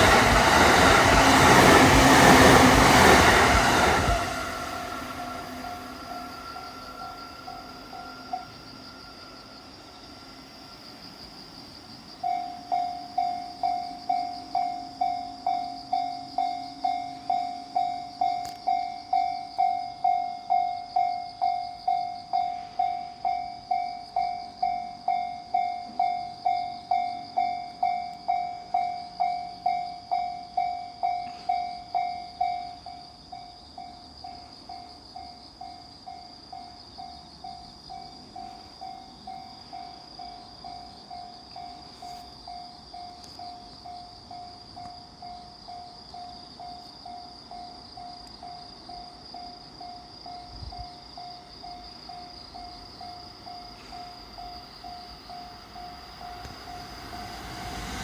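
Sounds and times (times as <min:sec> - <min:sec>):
level-crossing warning bell ringing: 0:00.0 - 0:10.6, 0:12.2 - 0:58.0.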